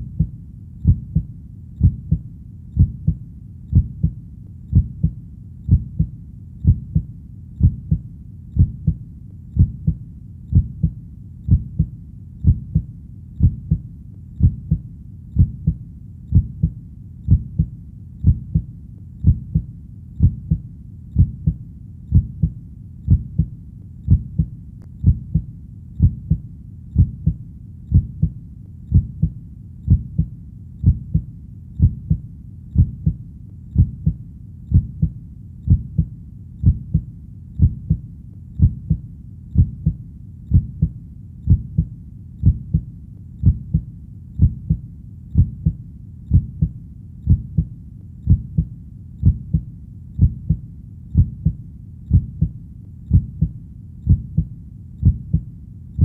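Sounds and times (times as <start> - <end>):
heartbeat: 0.0 - 56.0.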